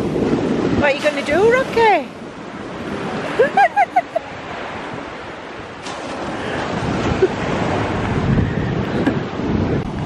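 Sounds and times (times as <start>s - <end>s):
small waves breaking on sand: 0.0s - 10.0s
wind buffeting microphone: 0.0s - 10.0s.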